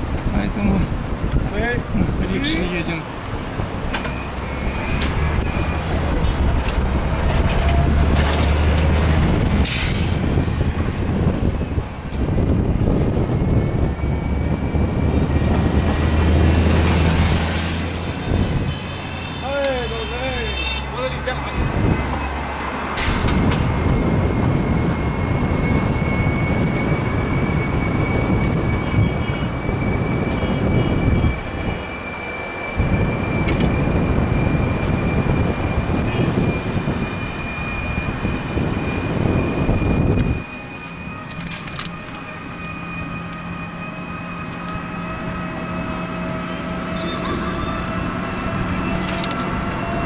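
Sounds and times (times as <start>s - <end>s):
wind buffeting and road noise: 0.0s - 50.0s.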